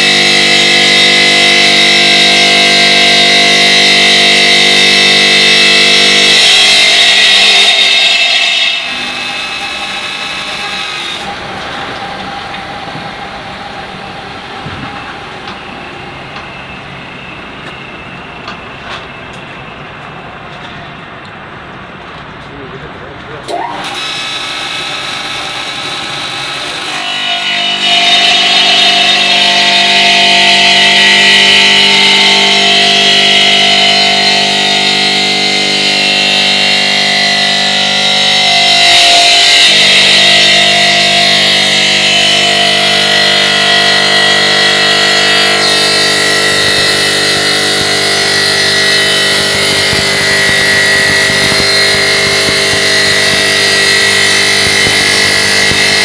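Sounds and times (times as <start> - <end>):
stone cutting machine whine: 0.0 - 20.8, 23.4 - 56.0.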